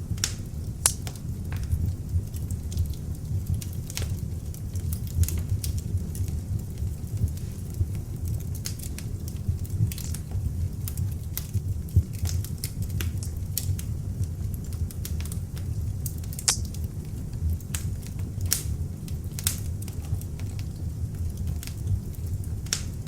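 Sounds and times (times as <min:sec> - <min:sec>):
fire crackles and pops: 0:00.0 - 0:23.0
log fire burning: 0:00.0 - 0:23.0.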